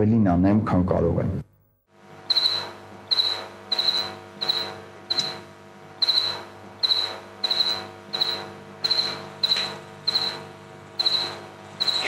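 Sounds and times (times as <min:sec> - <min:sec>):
faint steady hum: 0:00.0 - 0:12.0
cricket chirping: 0:02.2 - 0:12.0.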